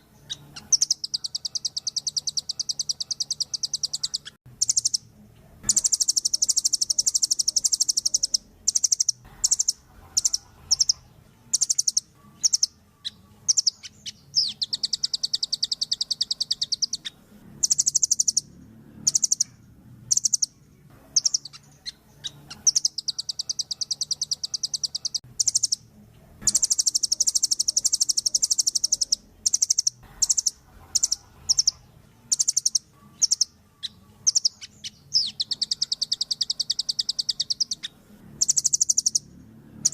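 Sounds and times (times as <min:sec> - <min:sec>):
bird trilling: 0:00.0 - 0:39.9.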